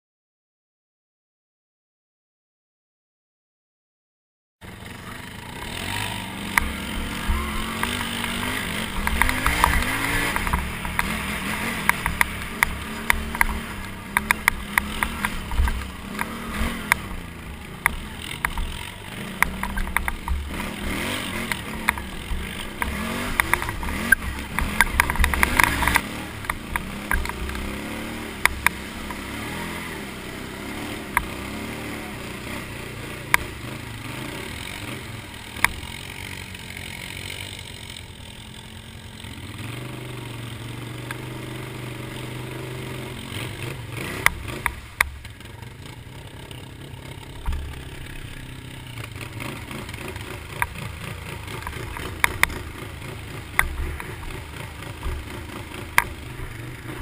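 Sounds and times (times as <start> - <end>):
atv engine revving: 4.6 - 57.0
sharp clicks and rattles: 6.5 - 29.5, 32.6 - 39.6, 40.3 - 57.0.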